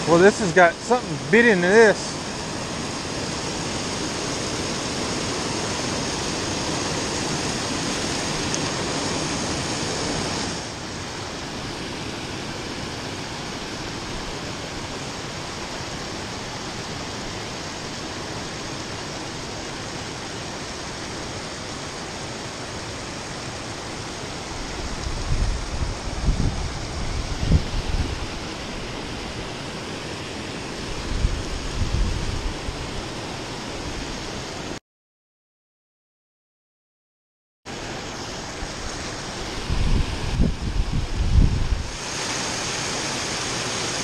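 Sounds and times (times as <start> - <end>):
river water rushing over rocks: 0.0 - 34.8, 37.7 - 44.0.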